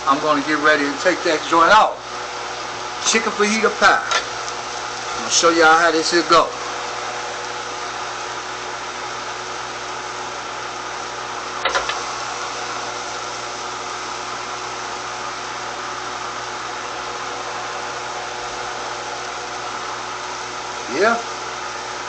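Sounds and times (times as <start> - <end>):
mechanical hum and hiss: 0.0 - 22.0.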